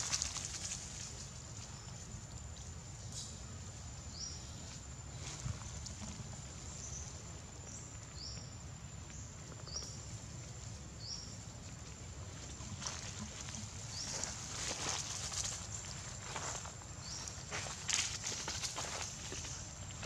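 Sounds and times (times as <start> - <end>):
steady high-pitched whine: 0.5 - 20.0.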